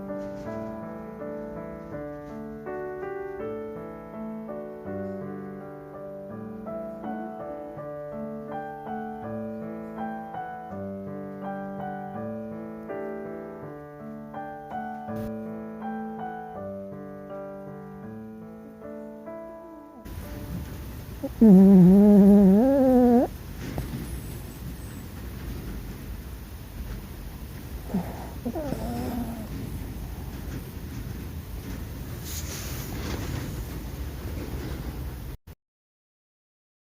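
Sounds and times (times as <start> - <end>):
gentle piano music: 0.0 - 32.2.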